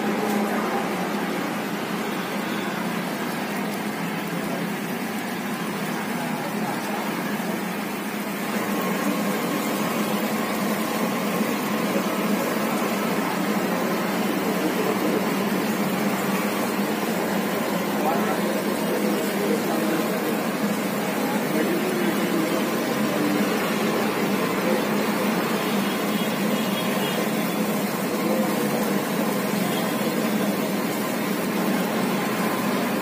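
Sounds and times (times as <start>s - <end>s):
batter sizzling in hot oil: 1.3s - 33.0s.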